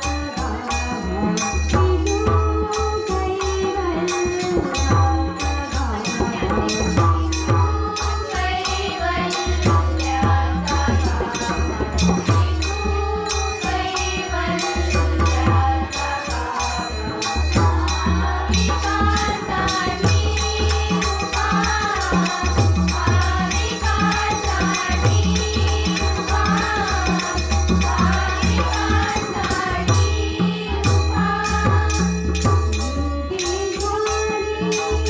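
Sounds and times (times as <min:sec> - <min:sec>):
jingling hand percussion: 0:00.0 - 0:35.0
women singing: 0:00.0 - 0:35.0.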